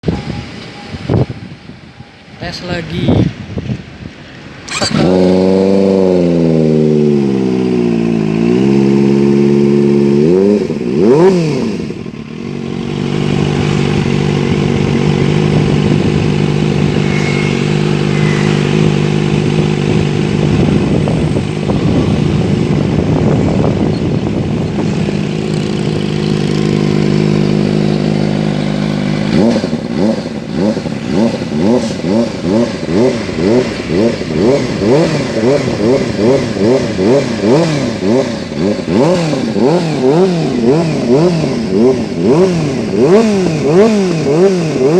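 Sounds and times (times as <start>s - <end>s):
motorcycle engine revving: 4.6s - 44.9s.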